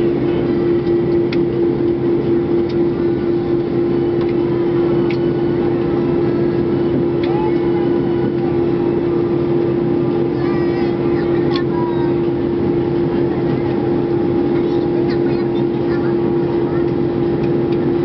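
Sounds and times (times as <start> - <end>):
constant low hum: 0.0 - 18.0
jet airliner cabin noise: 0.0 - 18.0.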